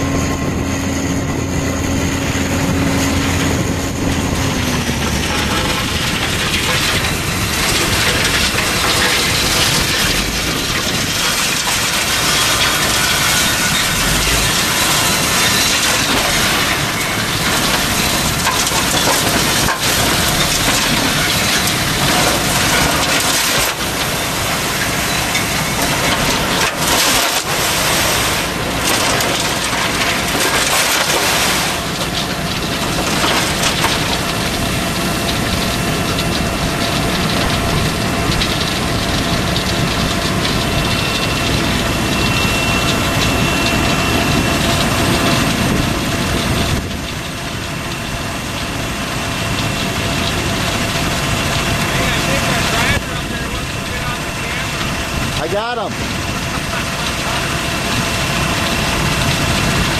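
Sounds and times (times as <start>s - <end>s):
engines running: 0.0s - 59.9s
grit pouring from truck bed: 4.5s - 42.2s, 42.8s - 59.9s.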